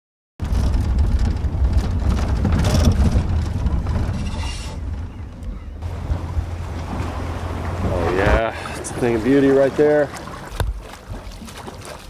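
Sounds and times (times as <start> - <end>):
engine rumbling: 0.4 - 12.0.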